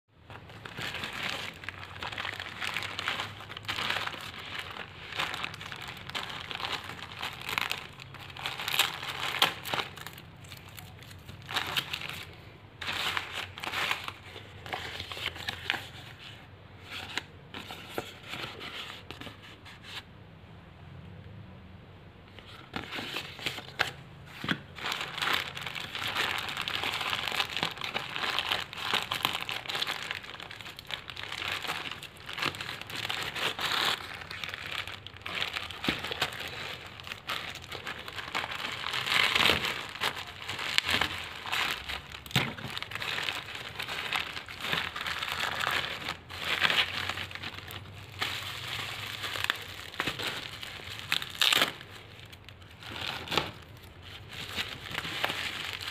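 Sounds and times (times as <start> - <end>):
plastic mailer bag crinkling: 0.2 - 16.0, 22.9 - 55.9
bubble wrap crinkling: 0.2 - 16.2, 22.6 - 55.9.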